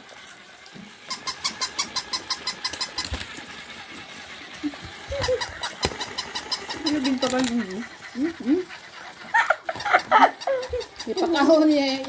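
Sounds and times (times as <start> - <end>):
toy mechanism clicking whir: 1.0 - 12.0.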